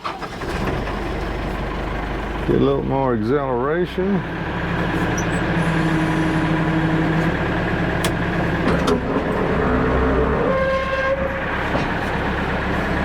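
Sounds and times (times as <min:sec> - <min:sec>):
hydraulics whining: 0:00.0 - 0:13.0
tractor engine running: 0:00.0 - 0:13.0.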